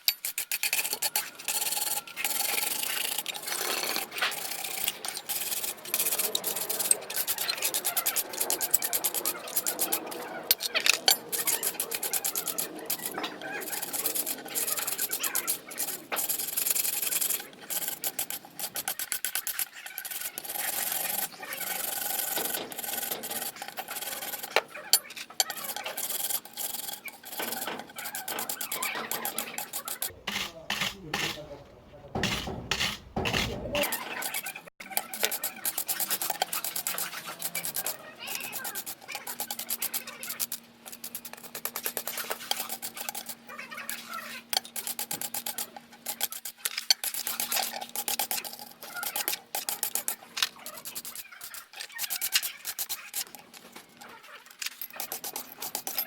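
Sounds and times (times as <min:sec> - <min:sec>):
hand scraping and rubbing metal: 0:00.0 - 0:56.0.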